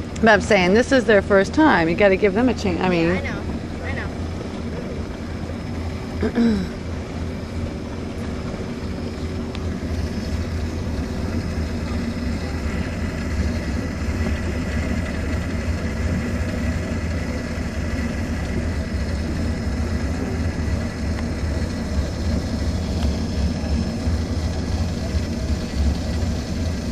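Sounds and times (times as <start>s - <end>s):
motorboat engine drone: 0.0s - 26.9s
water wash: 0.0s - 26.9s.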